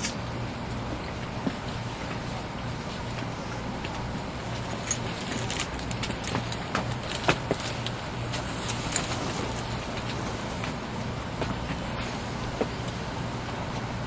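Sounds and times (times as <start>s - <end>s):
train cabin rumble and hum: 0.0s - 14.0s.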